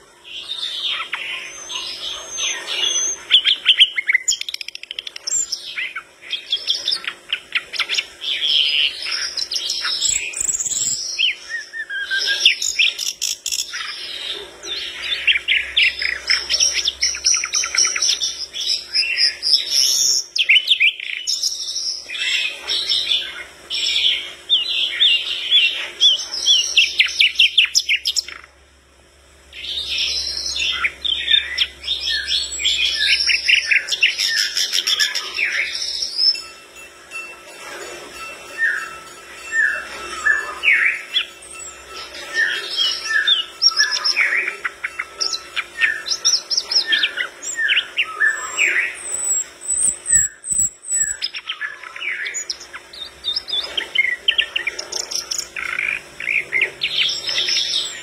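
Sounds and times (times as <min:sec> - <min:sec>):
bird chattering and trilling: 0:00.0 - 0:28.6, 0:29.5 - 0:36.9, 0:37.6 - 0:58.0.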